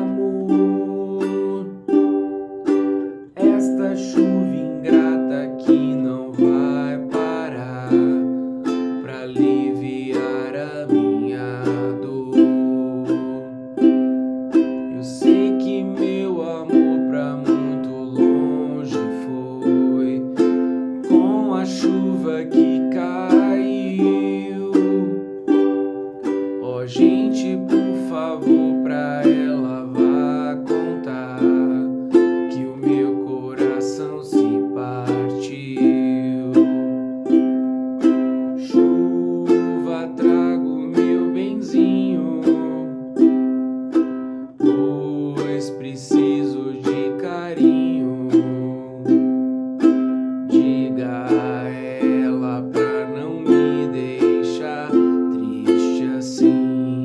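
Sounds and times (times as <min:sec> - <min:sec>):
acoustic string instrument strummed: 0:00.0 - 0:57.0.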